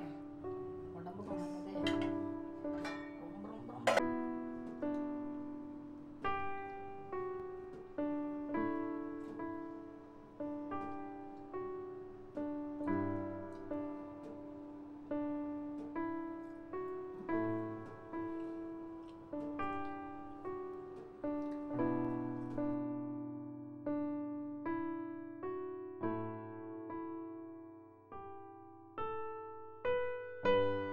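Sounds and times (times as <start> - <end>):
slow solo piano: 0.0 - 30.9.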